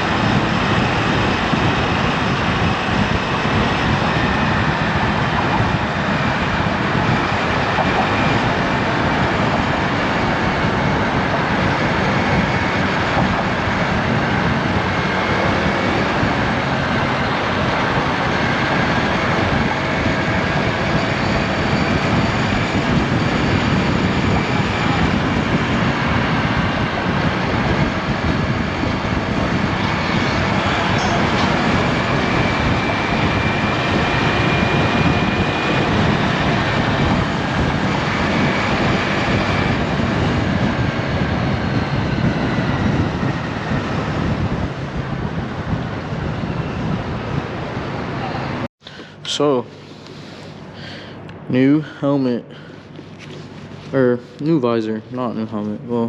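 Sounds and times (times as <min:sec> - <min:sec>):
road noise: 0:00.0 - 0:56.0
rushing wind: 0:00.0 - 0:56.0.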